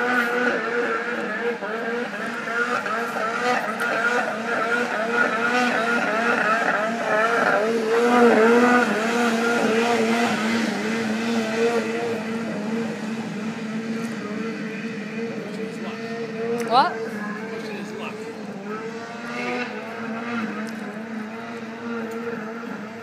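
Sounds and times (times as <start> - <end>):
snowmobile engine running hard: 0.0 - 23.0.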